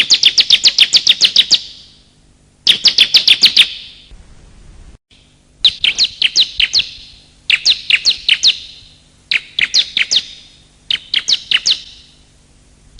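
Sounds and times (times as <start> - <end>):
bird chirping sharp downward calls: 0.0 - 1.9, 2.6 - 4.1, 5.2 - 12.3.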